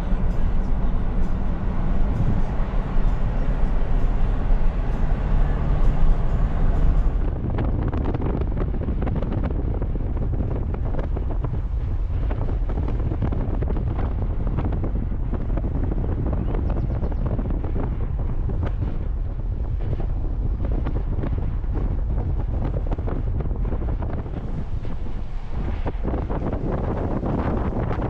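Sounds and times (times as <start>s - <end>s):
car road noise: 0.0s - 28.0s
wind buffeting microphone: 0.0s - 28.0s.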